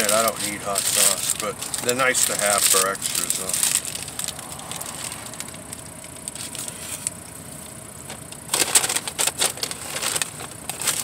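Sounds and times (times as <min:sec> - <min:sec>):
paper packaging crinkling: 0:00.0 - 0:07.2, 0:08.1 - 0:11.0
low background hum: 0:00.0 - 0:11.0.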